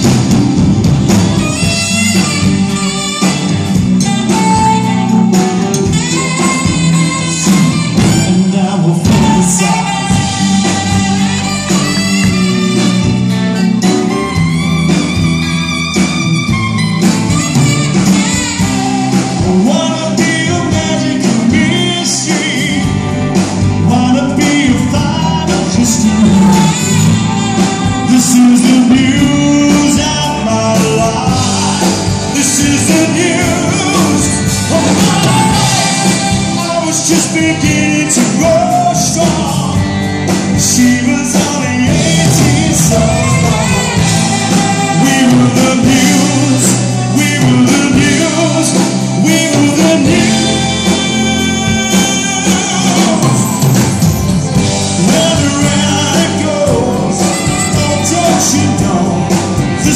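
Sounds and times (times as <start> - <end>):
drums: 0.0 - 59.9
electric guitars: 0.0 - 59.9
keyboards: 0.0 - 59.9
male singer: 1.4 - 12.4, 18.0 - 59.9.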